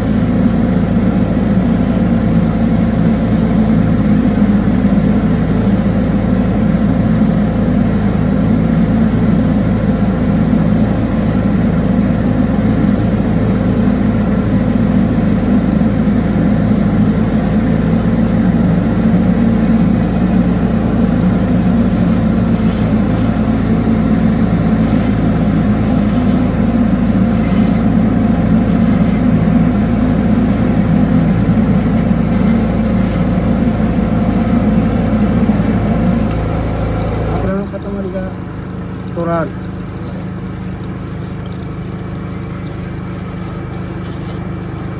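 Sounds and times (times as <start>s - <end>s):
washer engine running steadily: 0.0s - 44.9s.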